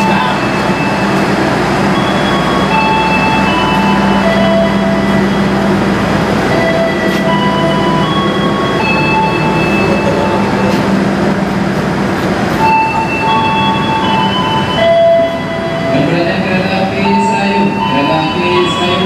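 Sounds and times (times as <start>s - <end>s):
train hum and rumble: 0.0s - 19.0s.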